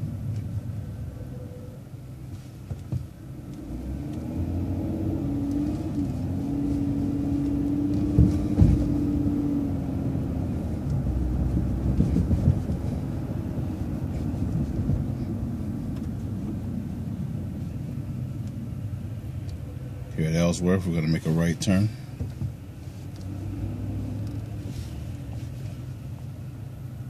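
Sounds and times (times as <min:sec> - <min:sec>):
bus engine rumble: 0:00.0 - 0:27.0.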